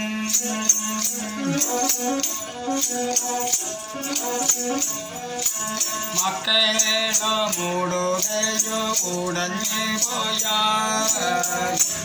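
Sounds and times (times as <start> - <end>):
bowed one-string fiddle melody: 0.0 - 12.0
rattling beat: 0.0 - 12.0.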